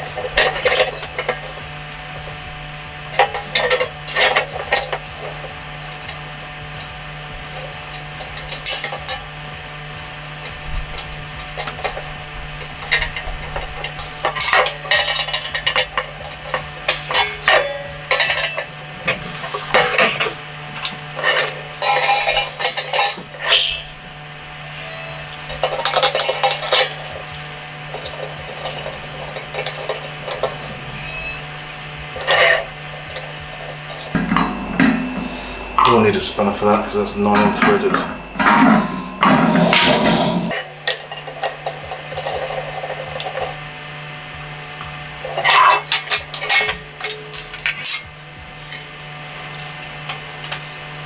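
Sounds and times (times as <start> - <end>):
metal barbecue parts clinking and rattling: 0.0 - 24.0, 25.3 - 30.7, 32.0 - 43.6, 45.2 - 48.9
steady low hum: 0.0 - 51.0.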